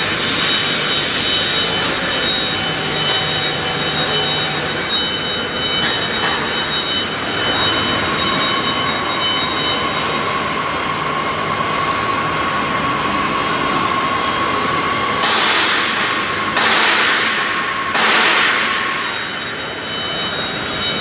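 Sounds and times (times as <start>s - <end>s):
router spindle whine: 0.0s - 15.2s, 18.8s - 21.0s
machine noise: 0.0s - 21.0s.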